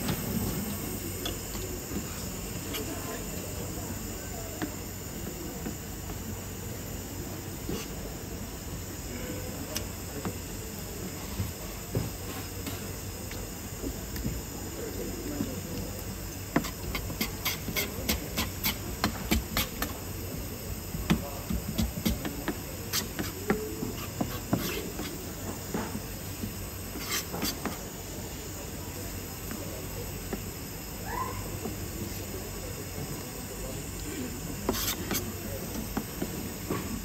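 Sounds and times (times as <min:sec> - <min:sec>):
background hiss and hum: 0:00.0 - 0:37.0.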